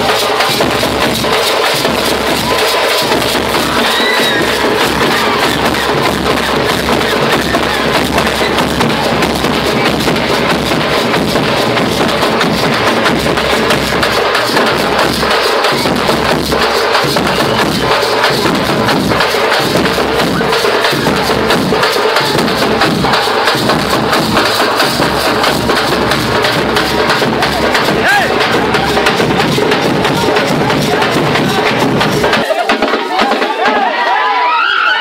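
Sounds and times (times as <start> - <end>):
drum band playing: 0.0 - 34.3.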